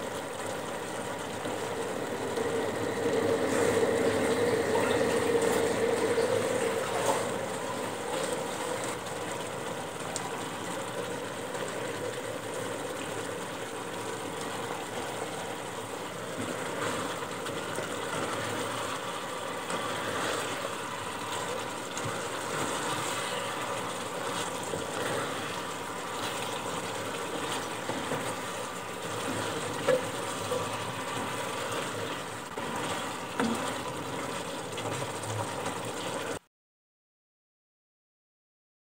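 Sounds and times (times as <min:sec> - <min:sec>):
gravy bubbling in a pan: 0:00.0 - 0:36.4.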